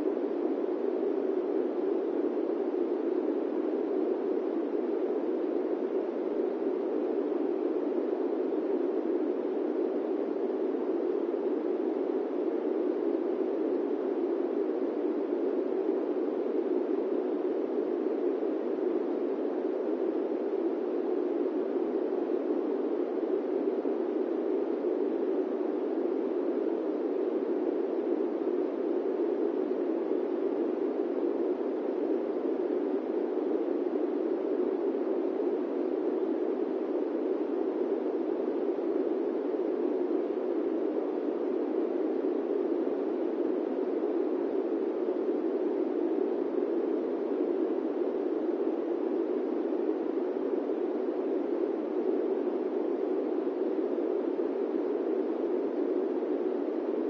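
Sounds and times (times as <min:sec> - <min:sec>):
airplane cabin white noise: 0:00.0 - 0:57.0.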